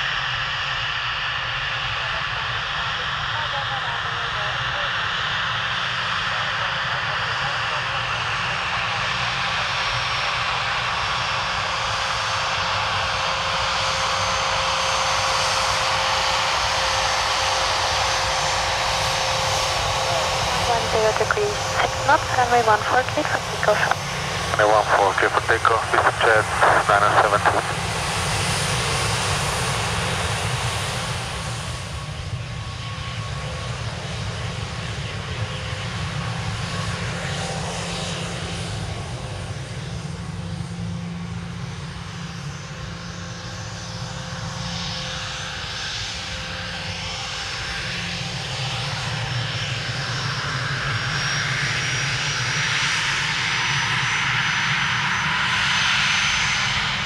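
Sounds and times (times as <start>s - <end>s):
jet engine hum: 0.0s - 57.0s.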